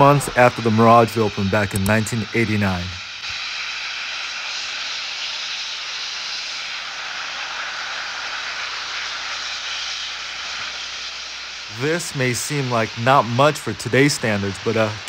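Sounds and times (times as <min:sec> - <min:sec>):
waterfalls rushing hiss: 0:00.0 - 0:15.0.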